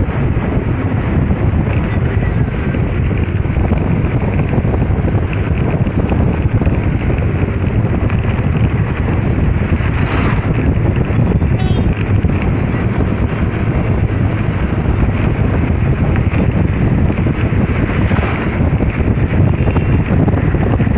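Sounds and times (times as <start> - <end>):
vehicle driving rumble: 0.0 - 20.9
wind buffeting microphone: 0.0 - 20.9.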